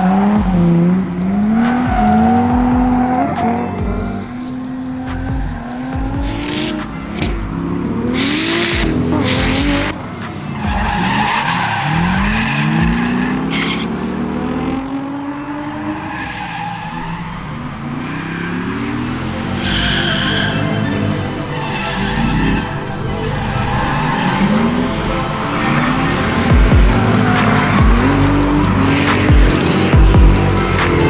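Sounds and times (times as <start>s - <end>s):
car engine revving: 0.0s - 31.0s
tyres squealing: 0.5s - 14.0s, 18.1s - 31.0s.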